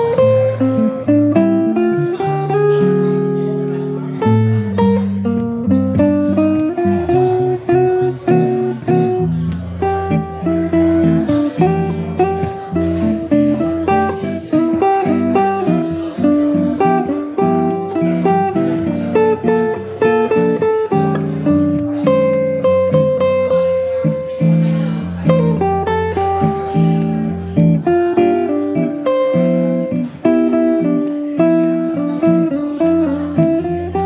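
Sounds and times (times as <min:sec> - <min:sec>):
electric guitar playing: 0:00.0 - 0:34.0.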